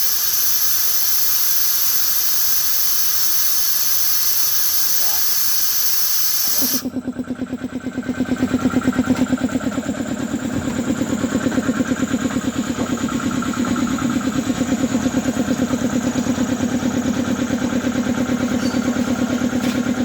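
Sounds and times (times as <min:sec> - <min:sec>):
air compressor pumping: 0:00.0 - 0:20.0.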